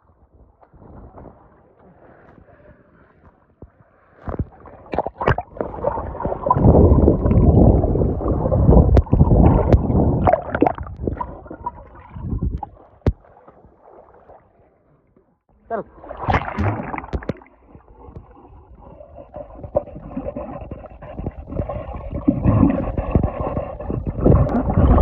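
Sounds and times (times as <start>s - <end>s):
pool water sloshing and gurgling: 0.0s - 25.0s.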